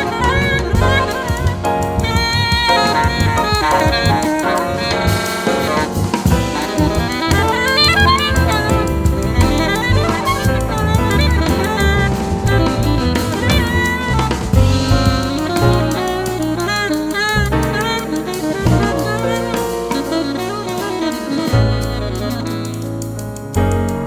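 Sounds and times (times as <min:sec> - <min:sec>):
alto saxophone melody: 0:00.0 - 0:24.0
bass: 0:00.0 - 0:24.0
drum kit with cymbals: 0:00.0 - 0:24.0
piano: 0:00.0 - 0:24.0.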